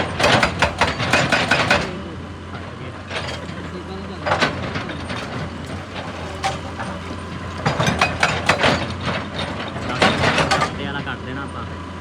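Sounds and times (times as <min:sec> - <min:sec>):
sharp knocks and clanks: 0:00.0 - 0:02.1, 0:03.1 - 0:11.0
excavator diesel engine running: 0:00.0 - 0:12.0.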